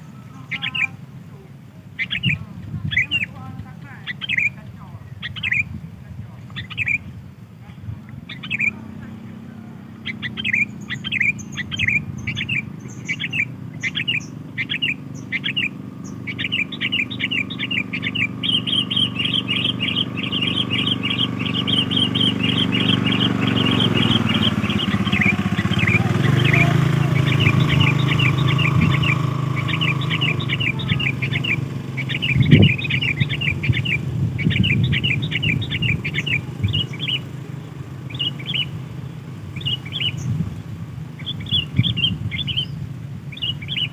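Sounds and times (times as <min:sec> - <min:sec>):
bulbul chirping: 0:00.0 - 0:01.0, 0:01.8 - 0:05.8, 0:06.4 - 0:07.2, 0:08.1 - 0:43.9
low hum: 0:00.0 - 0:43.9.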